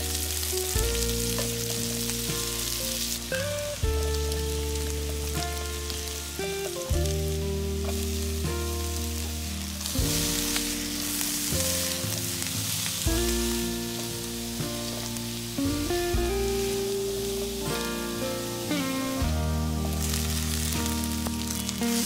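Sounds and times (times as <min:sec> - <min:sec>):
background music: 0:00.0 - 0:22.0
food sizzling in a pan: 0:00.0 - 0:22.0.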